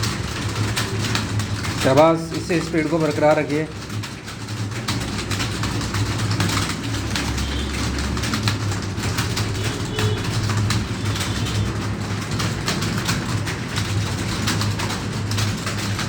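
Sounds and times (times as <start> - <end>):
computer keyboards clattering: 0.0 - 16.0.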